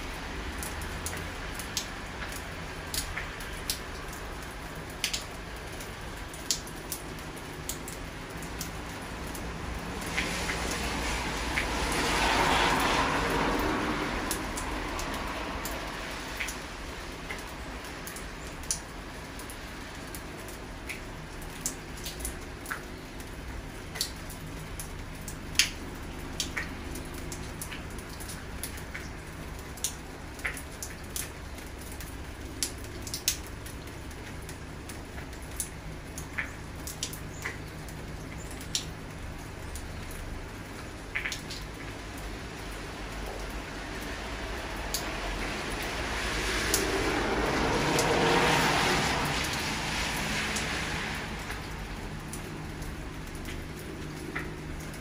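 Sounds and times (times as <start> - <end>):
steady rain falling: 0.0 - 55.0
water drips: 0.0 - 55.0.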